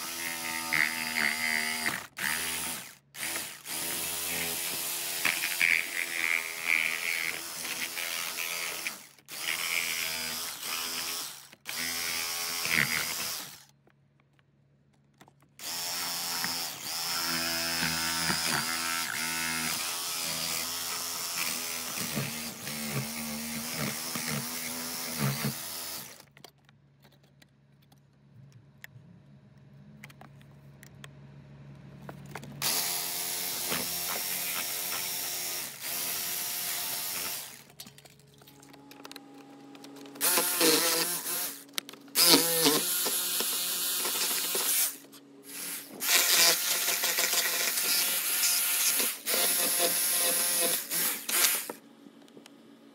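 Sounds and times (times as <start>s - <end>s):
jigsaw cutting sheet metal: 0.0s - 13.7s, 15.6s - 26.4s, 32.6s - 51.8s.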